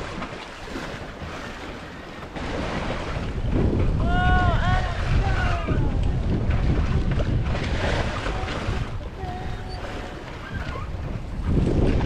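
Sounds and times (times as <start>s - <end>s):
sea washing past boat: 0.0s - 12.0s
wind buffeting microphone: 0.0s - 12.0s.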